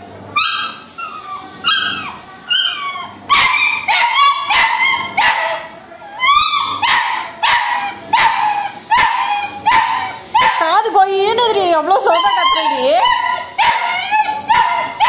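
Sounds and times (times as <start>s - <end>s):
puppy yelping: 0.3s - 10.8s, 12.0s - 15.0s.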